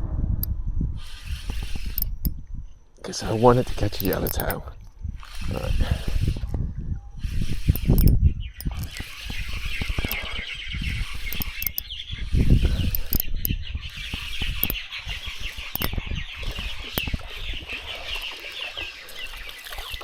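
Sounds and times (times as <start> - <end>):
fishing reel gears whirring: 0.0 - 20.0.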